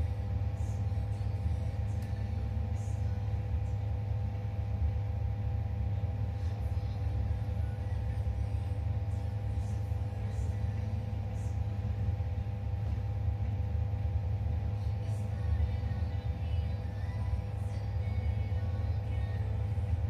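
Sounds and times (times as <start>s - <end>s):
low rumble with hum: 0.0s - 20.0s.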